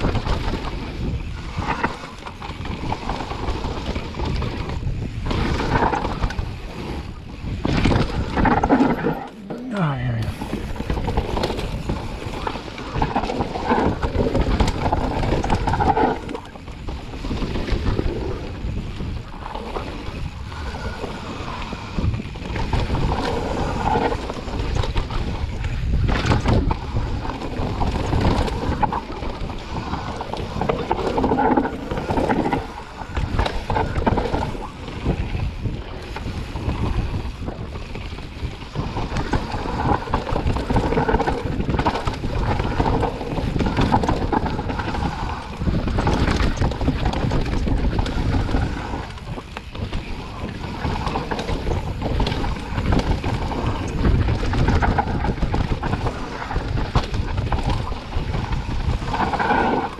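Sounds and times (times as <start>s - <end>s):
bike knocking and rattling: 0.0s - 59.9s
tyre rumble: 0.0s - 59.9s
wind buffeting microphone: 0.0s - 59.9s.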